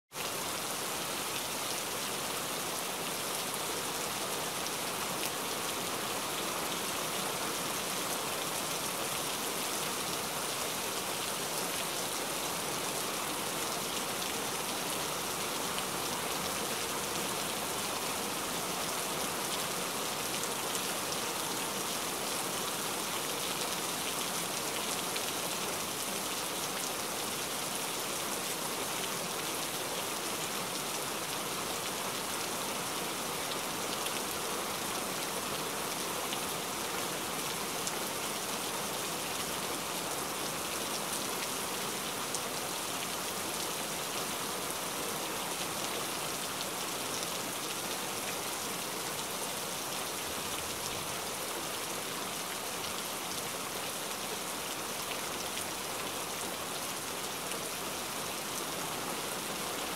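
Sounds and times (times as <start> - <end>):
steady rain falling: 0.1 - 59.9.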